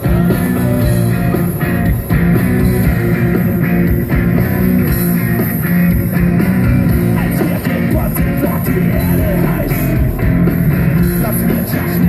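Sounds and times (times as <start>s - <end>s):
drum kit: 0.0s - 12.0s
electric guitars: 0.0s - 12.0s.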